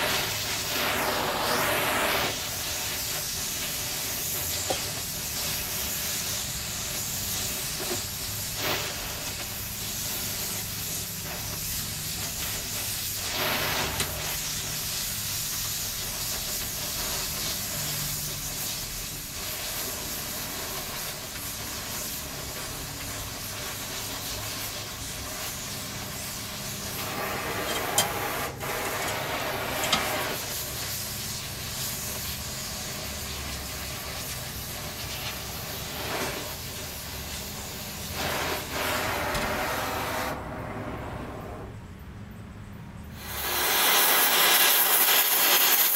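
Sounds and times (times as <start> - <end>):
welding arc hissing: 0.0 - 40.5, 43.1 - 45.9.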